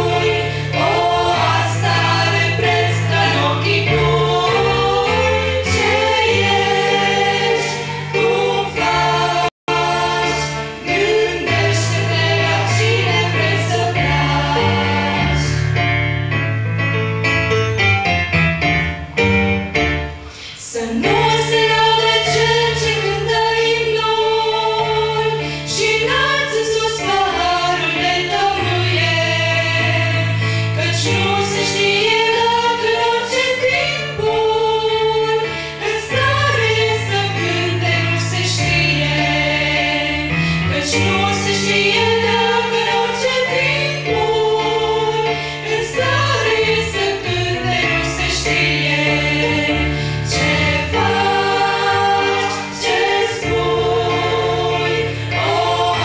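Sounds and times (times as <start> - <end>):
women singing in harmony: 0.0 - 15.8, 20.6 - 56.0
steady bass accompaniment: 0.0 - 20.3, 21.0 - 56.0.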